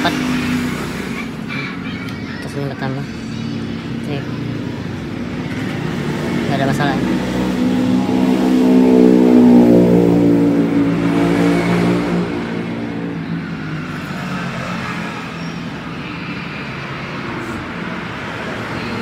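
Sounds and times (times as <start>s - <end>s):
passing vehicle engine: 0.0s - 19.0s
steady traffic hum: 0.0s - 19.0s.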